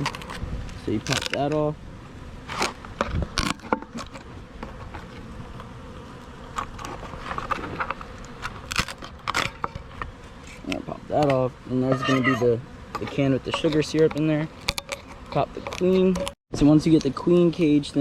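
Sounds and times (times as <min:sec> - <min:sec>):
bees buzzing: 0:00.0 - 0:16.3.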